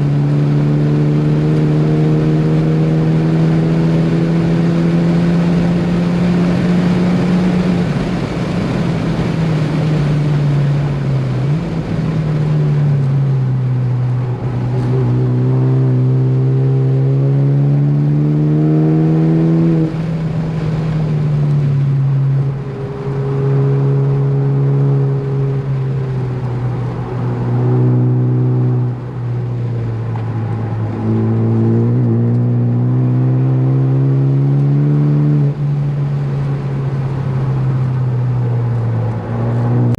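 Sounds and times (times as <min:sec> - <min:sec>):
car engine accelerating: 0:00.0 - 0:39.9
tyre and road noise: 0:00.0 - 0:39.9.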